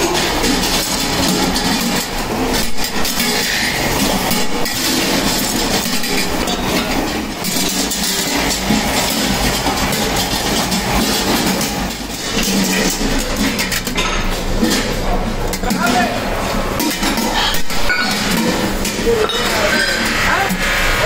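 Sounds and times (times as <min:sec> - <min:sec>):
metal clattering and clinking: 0:00.0 - 0:20.3.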